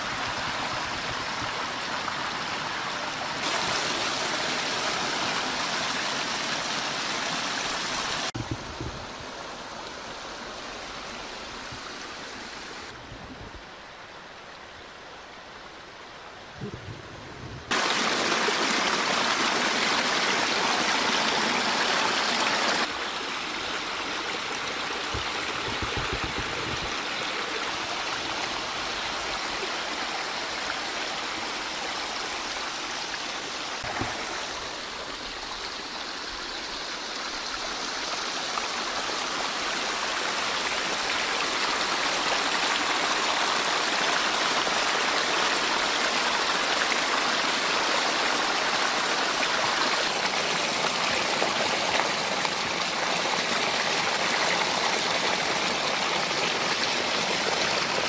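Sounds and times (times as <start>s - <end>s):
water rushing over boulders: 0.0s - 13.0s, 16.4s - 58.0s.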